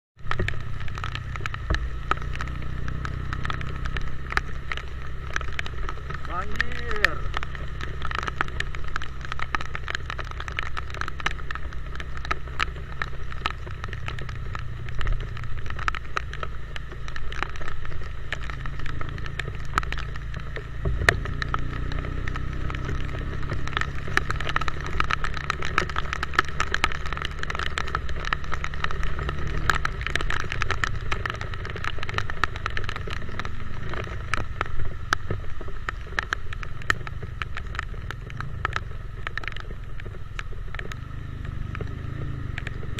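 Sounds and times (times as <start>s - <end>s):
motorcycle engine hum: 0.2s - 42.9s
raindrops ticking on microphone: 0.2s - 42.9s.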